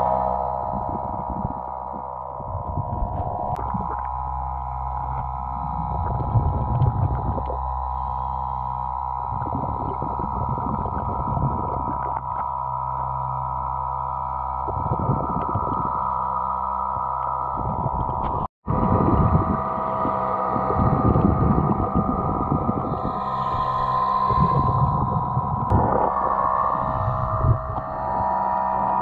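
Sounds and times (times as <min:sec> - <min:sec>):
underwater steady hum: 0:00.0 - 0:29.0.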